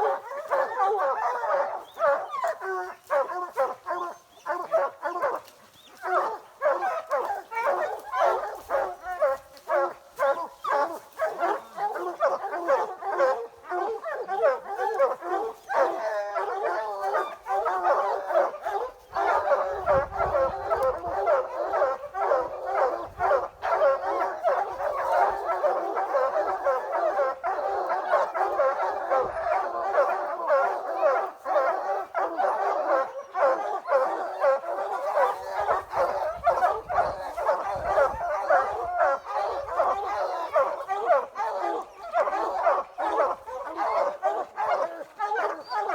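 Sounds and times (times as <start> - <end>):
hounds baying and barking: 0.0 - 45.9.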